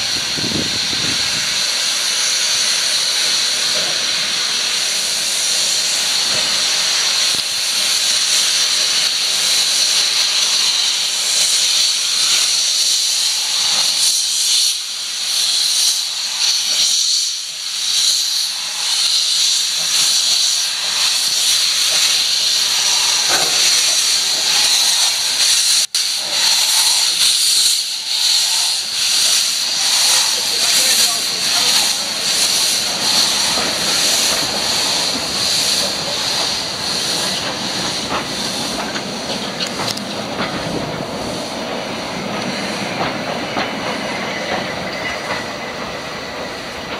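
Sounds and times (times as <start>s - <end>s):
steam locomotive hissing: 0.0s - 46.9s.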